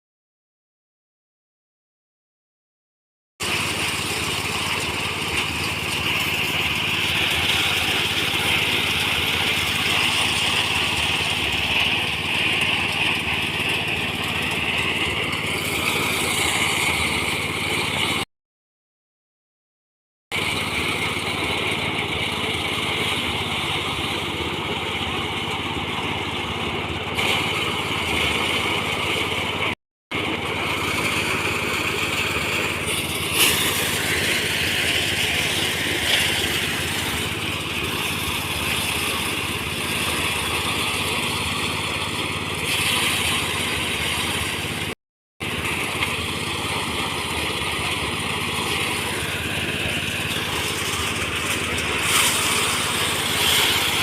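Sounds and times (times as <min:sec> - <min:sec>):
small engine droning: 0:03.4 - 0:18.3, 0:20.3 - 0:54.0.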